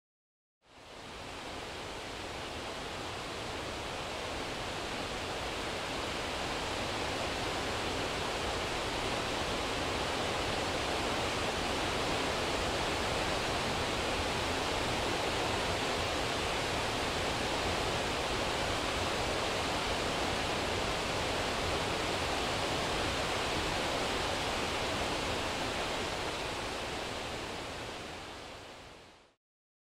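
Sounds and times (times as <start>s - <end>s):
waterfall rushing hiss: 0.8s - 29.3s.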